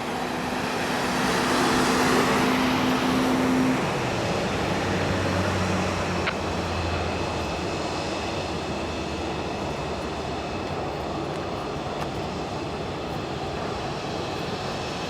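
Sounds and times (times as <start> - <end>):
jet engines rushing and humming: 0.0 - 15.0.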